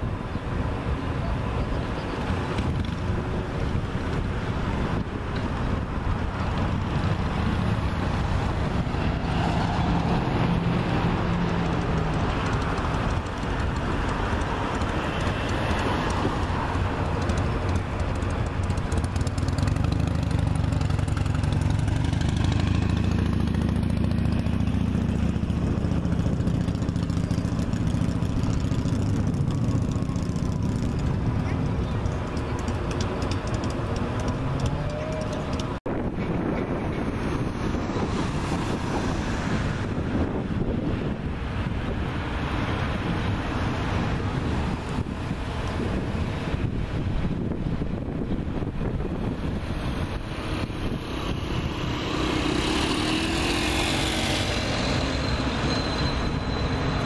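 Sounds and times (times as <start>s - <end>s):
vehicle engines running: 0.0s - 57.0s.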